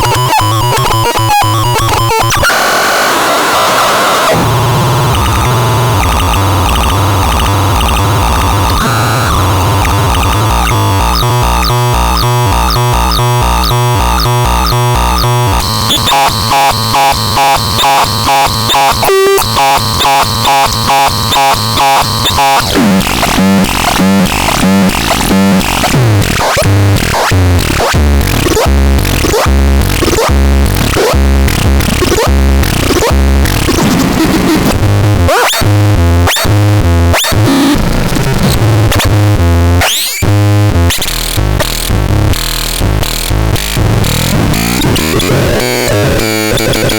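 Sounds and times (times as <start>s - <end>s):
harsh synthesizer tones: 0.0s - 46.9s.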